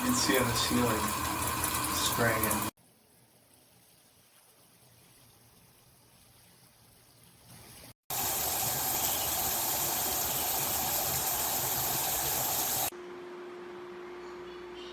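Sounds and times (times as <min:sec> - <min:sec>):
shower head spraying water: 0:00.0 - 0:02.8, 0:03.5 - 0:12.9.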